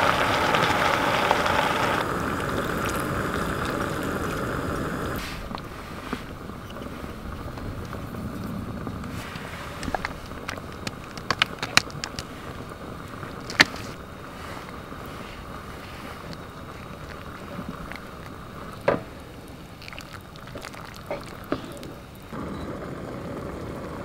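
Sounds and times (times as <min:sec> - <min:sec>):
steady hiss under pot: 0:00.0 - 0:24.0.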